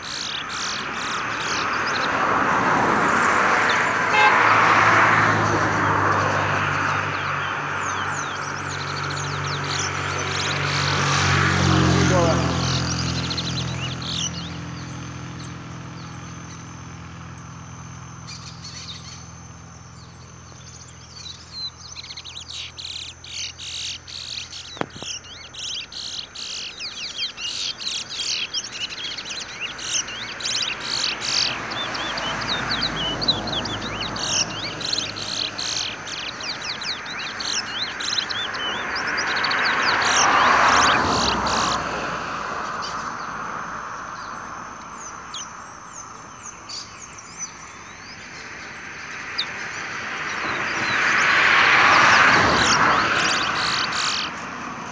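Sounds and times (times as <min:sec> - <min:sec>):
finches twittering: 0:00.0 - 0:54.9.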